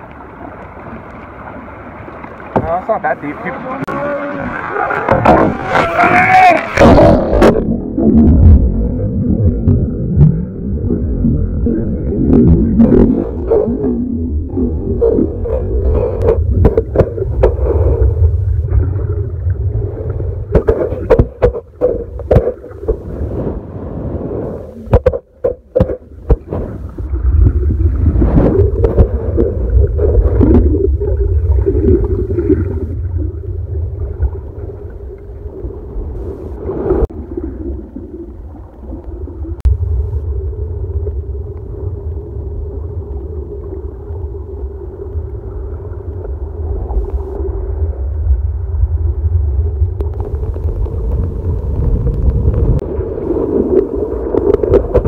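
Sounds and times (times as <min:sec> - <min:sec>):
underwater rumble of moving water: 0:00.0 - 0:55.0.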